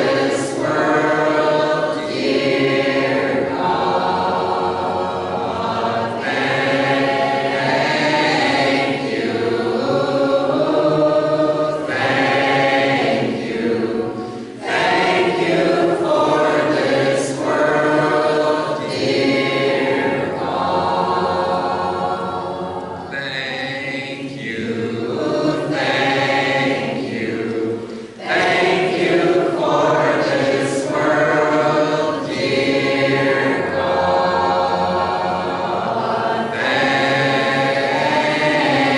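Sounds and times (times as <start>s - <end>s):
congregation singing a hymn: 0.0s - 38.9s.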